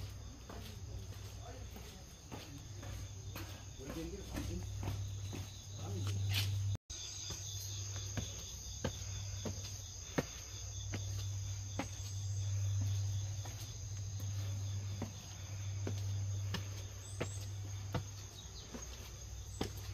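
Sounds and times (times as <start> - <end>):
footsteps on stone steps: 0.0 - 19.9
insects chirping: 0.0 - 19.9
steady low hum: 0.0 - 19.9.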